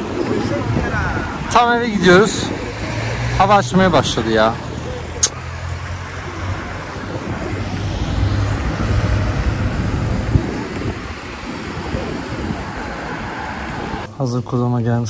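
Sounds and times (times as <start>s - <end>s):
cars passing: 0.0s - 14.2s
traffic low rumble: 0.0s - 14.2s.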